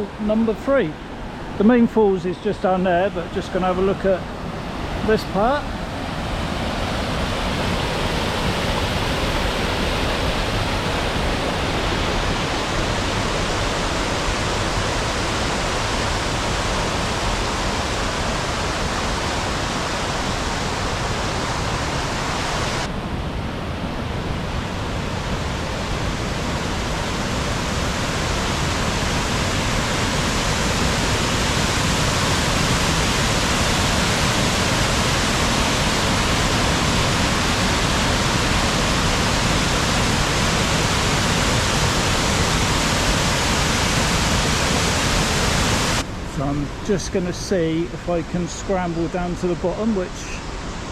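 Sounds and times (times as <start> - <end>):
waterfall rushing: 0.0 - 22.9, 24.5 - 50.9.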